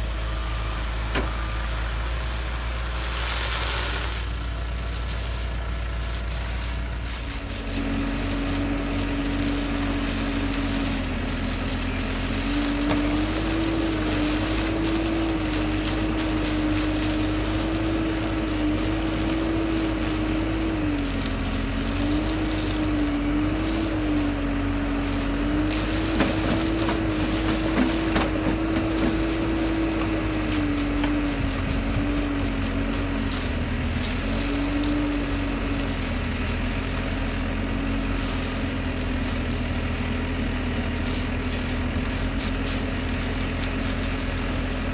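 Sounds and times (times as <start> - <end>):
vehicle engine revving: 0.0 - 44.9.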